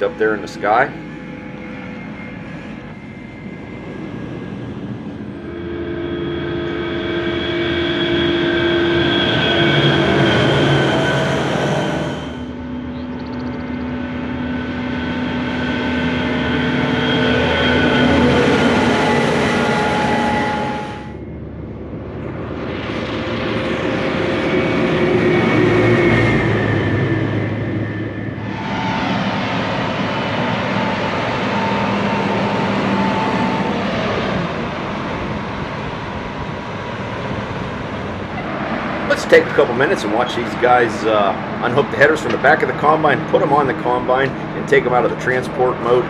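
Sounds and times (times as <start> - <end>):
farm machinery engines passing: 0.0 - 46.0.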